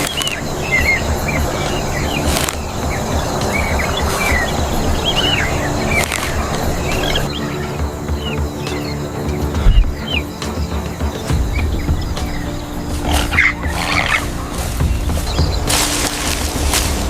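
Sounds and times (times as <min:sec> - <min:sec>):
birds chirping: 0:00.0 - 0:17.0
outdoor ambience: 0:00.0 - 0:17.0
soft background music: 0:00.0 - 0:17.0.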